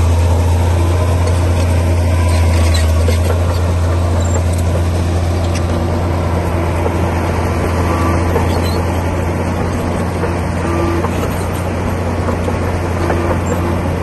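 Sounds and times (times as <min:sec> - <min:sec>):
bulldozer diesel engine droning: 0:00.0 - 0:14.0.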